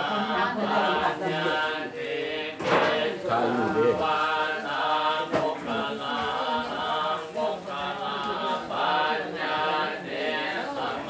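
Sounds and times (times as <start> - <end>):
group of voices chanting in unison: 0.0 - 11.0.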